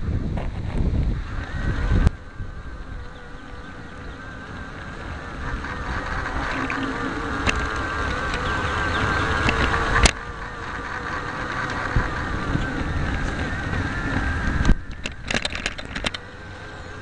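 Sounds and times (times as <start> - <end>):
electric motor whine: 0.0 - 17.0
wheels clicking over rails: 0.0 - 17.0.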